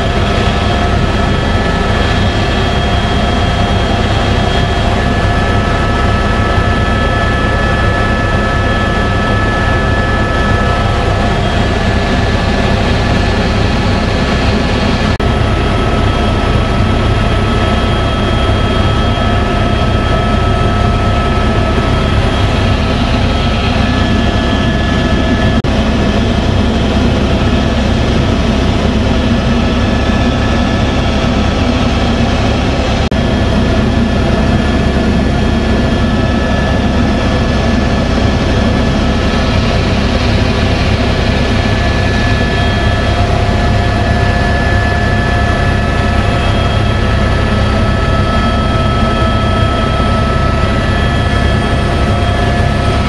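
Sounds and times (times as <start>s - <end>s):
helicopter engine and rotor drone: 0.0s - 53.0s
steady high whine: 0.0s - 53.0s.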